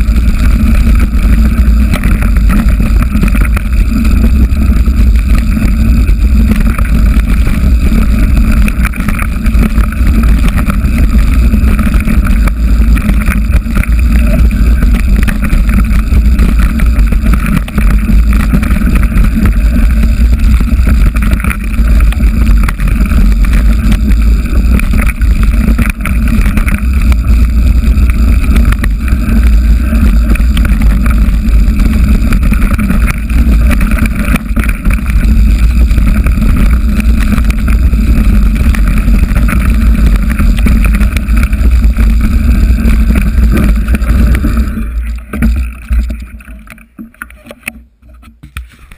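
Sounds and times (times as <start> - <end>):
wind and trail rumble: 0.0 - 48.9.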